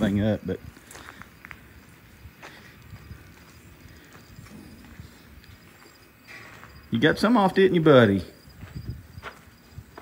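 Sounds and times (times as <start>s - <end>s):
footsteps on dirt floor: 0.0s - 10.0s.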